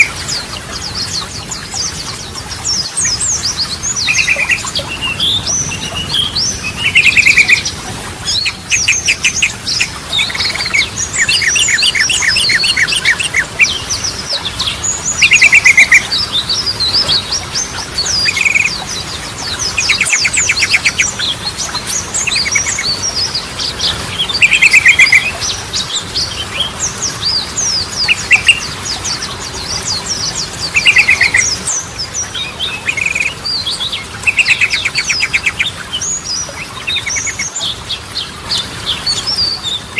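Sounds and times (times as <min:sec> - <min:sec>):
bulbul singing: 0:00.0 - 0:39.9
rapid bird trills: 0:00.0 - 0:39.9.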